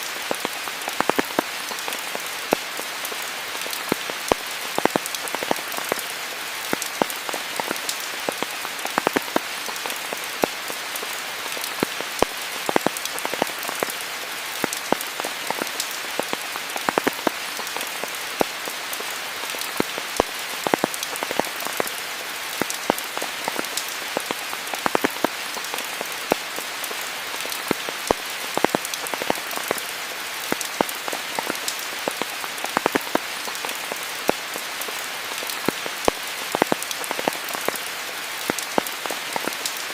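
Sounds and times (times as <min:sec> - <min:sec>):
heavy rain on foliage: 0:00.0 - 0:39.9
raindrops hitting leaves: 0:00.0 - 0:39.9.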